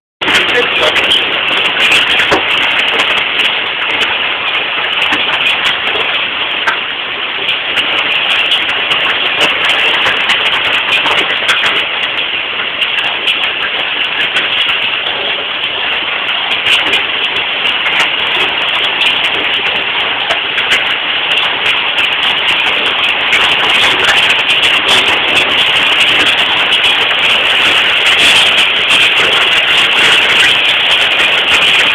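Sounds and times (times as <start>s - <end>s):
heavy rain pouring: 0.2s - 31.9s.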